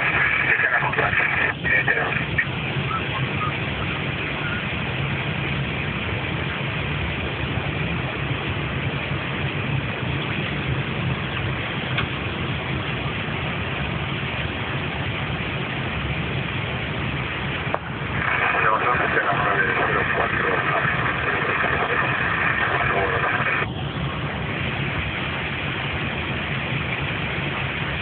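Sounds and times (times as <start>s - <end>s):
low hum: 0.0s - 28.0s
rushing cockpit cabin noise: 0.0s - 28.0s.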